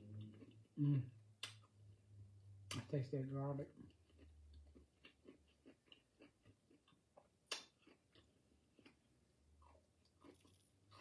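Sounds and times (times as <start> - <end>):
faint chewing with mouth clicks: 0.0 - 1.8, 3.7 - 11.0.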